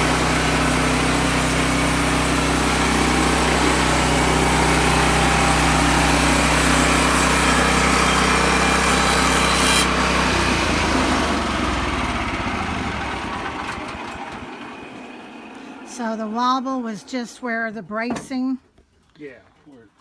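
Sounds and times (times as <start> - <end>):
sawmill engine running: 0.0 - 17.9.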